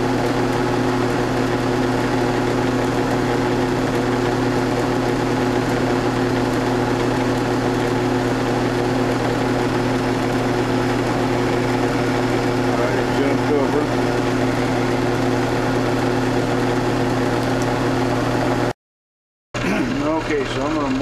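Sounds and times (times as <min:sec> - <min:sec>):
mill-drill motor humming: 0:00.0 - 0:18.8.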